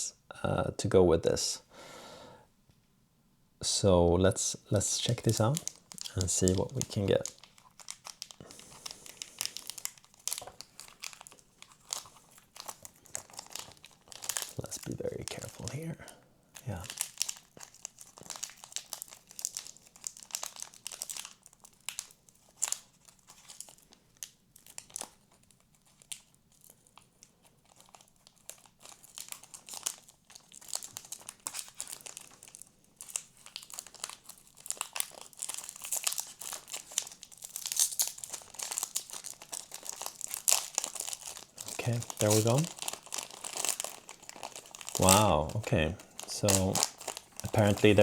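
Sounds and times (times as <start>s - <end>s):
foil wrapper crinkling: 4.8s - 48.0s.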